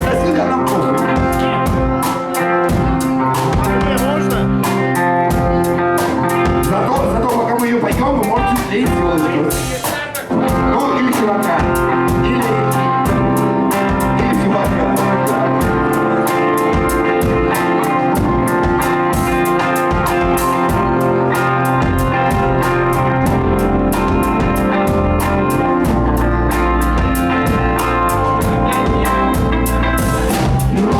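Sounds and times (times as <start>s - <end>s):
drum kit: 0.0s - 30.9s
electric guitar: 0.0s - 30.9s
rock band playing live: 0.0s - 30.9s.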